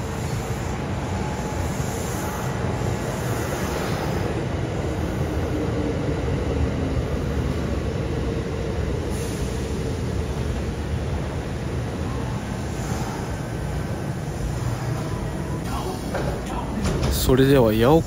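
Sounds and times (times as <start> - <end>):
electric train wheels rumbling: 0.0 - 18.0.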